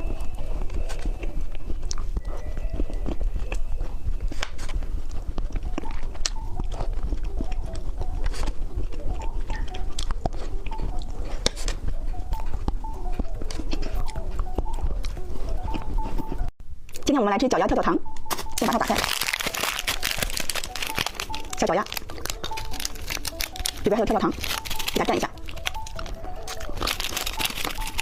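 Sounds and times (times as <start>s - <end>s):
candy crunching: 0.0s - 17.0s, 18.1s - 28.0s.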